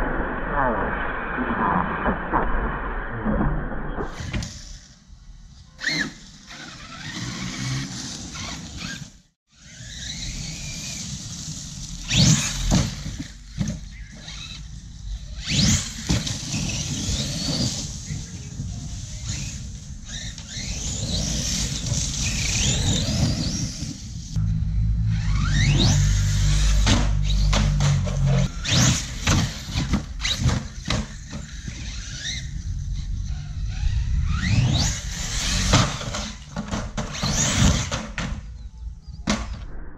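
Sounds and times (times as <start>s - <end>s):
rc truck motor whining: 4.2s - 38.7s.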